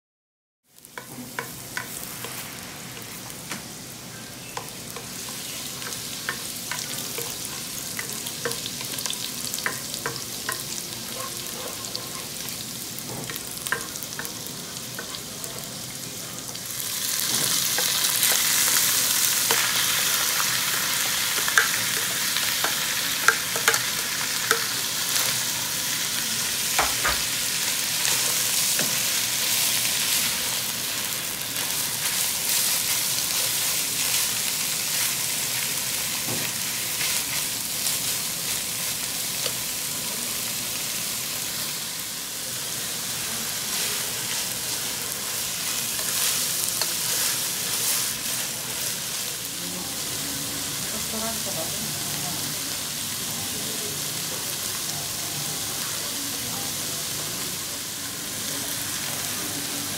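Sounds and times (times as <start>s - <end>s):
garlic sizzling in oil: 0.6s - 59.9s.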